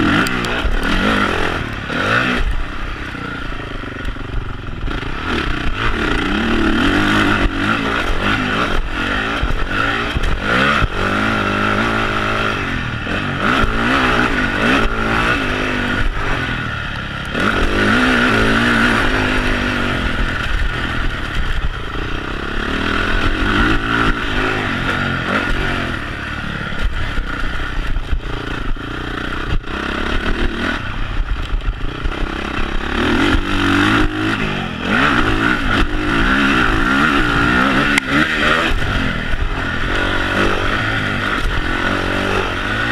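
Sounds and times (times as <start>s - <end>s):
motocross bike engine revving: 0.0s - 42.9s
knocks and clatter over bumps: 4.0s - 42.9s.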